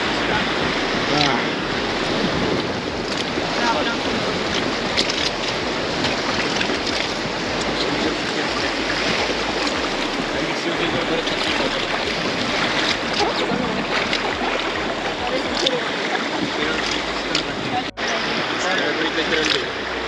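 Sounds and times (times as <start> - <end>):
water splashes: 0.0 - 20.0
whitewater river rushing: 0.0 - 20.0.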